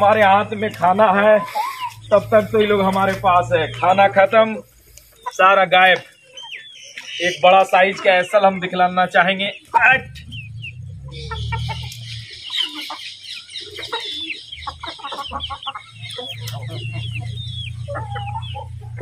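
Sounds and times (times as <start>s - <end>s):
chickens clucking and calling: 0.0s - 19.0s.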